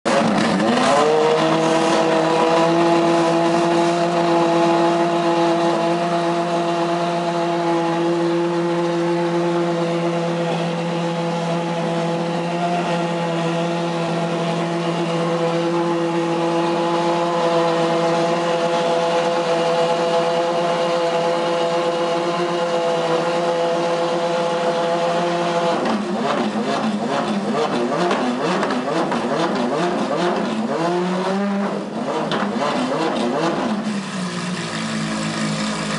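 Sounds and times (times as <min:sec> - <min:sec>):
sports car engine starting and idling: 0:00.1 - 0:35.9.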